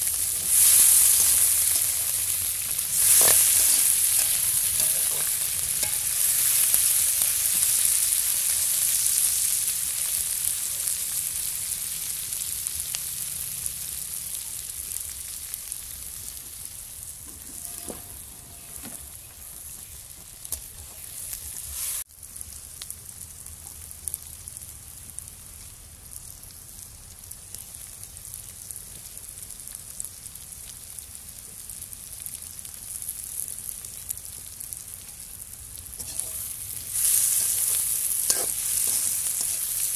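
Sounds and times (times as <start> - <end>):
onions sizzling in a wok: 0.0 - 39.9.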